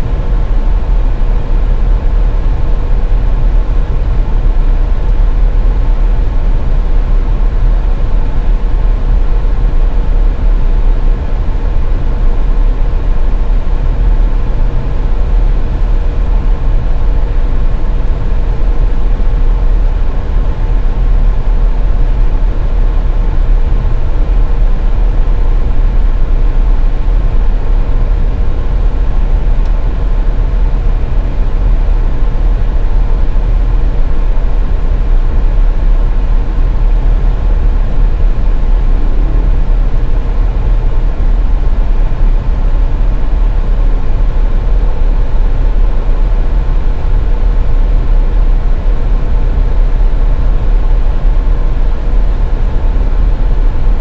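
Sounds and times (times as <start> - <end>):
faint steady hum: 0.0 - 54.0
car engine and road noise: 10.8 - 54.0.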